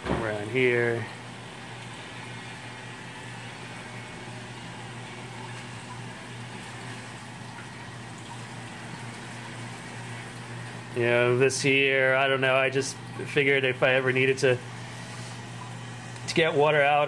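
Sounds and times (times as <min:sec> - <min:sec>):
pump humming: 0:00.0 - 0:17.0
water rushing through pipes: 0:00.0 - 0:17.0.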